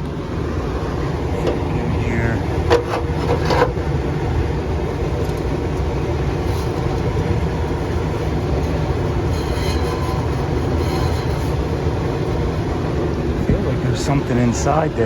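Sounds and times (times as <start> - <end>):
furnace blower rumbling: 0.0 - 15.0.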